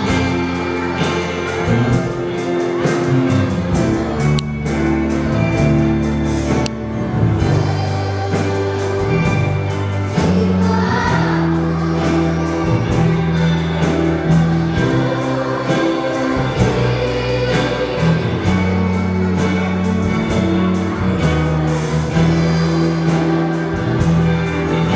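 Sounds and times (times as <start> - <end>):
children's choir singing a hymn: 0.0 - 24.9
instrumental accompaniment with beat: 0.0 - 24.9.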